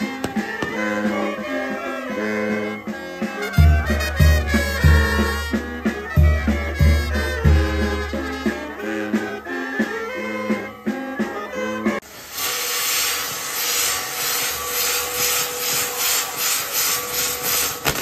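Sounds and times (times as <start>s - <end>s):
fireworks rushing hiss: 0.0s - 9.1s, 12.0s - 18.0s
brass band music: 0.0s - 18.0s.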